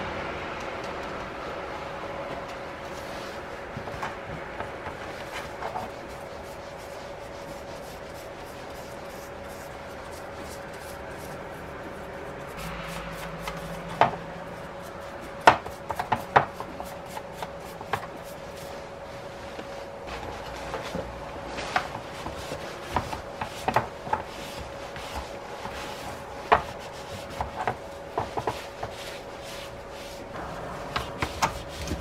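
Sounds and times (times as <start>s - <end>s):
steady hum: 0.0s - 32.0s
brush rubbing on wood: 5.0s - 20.7s, 21.6s - 32.0s.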